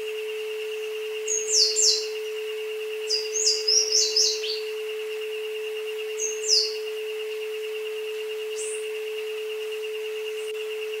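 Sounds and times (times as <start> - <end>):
jungle birdsong chirps: 0.0 - 11.0
steady electronic tone: 0.0 - 11.0.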